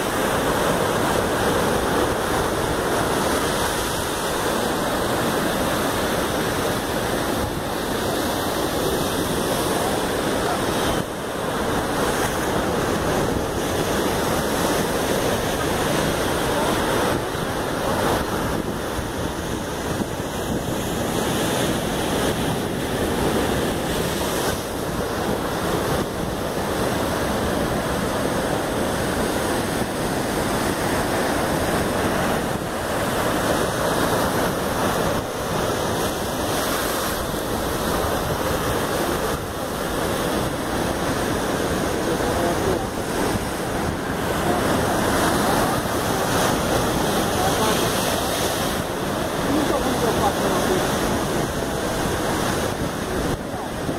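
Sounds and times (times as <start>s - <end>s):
surf breaking around rocks: 0.0s - 53.9s.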